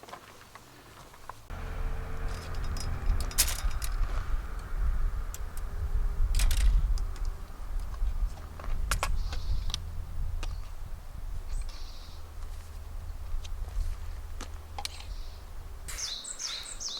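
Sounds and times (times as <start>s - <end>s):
steady low rumble: 1.5s - 15.9s.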